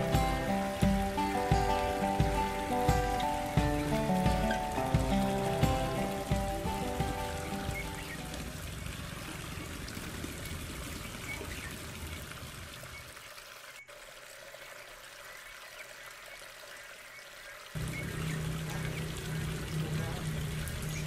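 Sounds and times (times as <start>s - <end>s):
water pouring and splashing: 0.0s - 21.0s.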